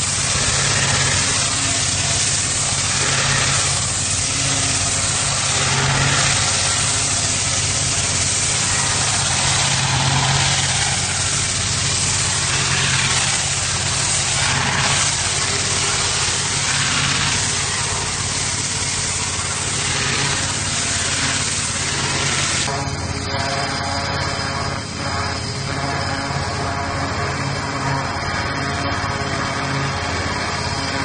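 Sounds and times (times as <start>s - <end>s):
high-pressure water jet hissing: 0.0s - 31.0s
pressure washer engine hum: 0.0s - 31.0s.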